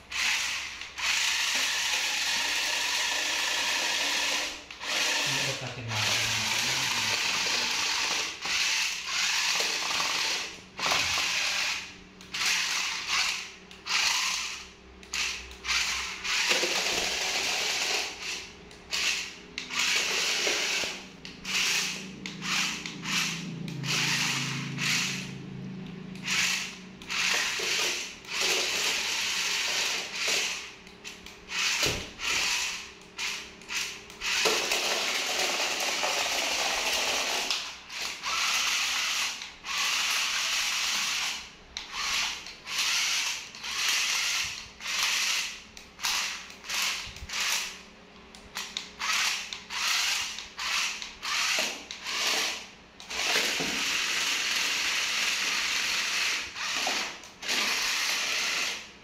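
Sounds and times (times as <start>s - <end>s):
toy car motors whirring: 0.0s - 25.4s, 26.1s - 58.9s.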